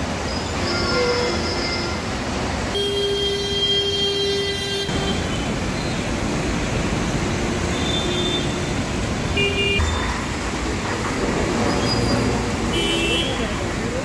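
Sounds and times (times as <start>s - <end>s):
traffic engines and road noise: 0.0s - 14.0s.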